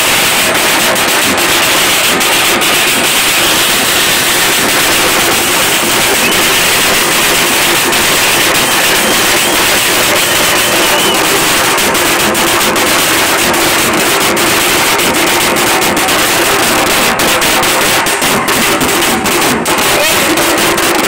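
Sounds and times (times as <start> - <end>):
drum band beating fast: 0.0 - 21.0.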